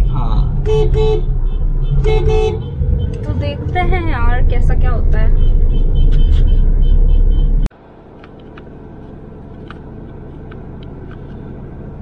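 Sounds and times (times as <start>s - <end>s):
cabin road noise: 0.0s - 12.0s
loud low road rumble: 0.0s - 12.0s.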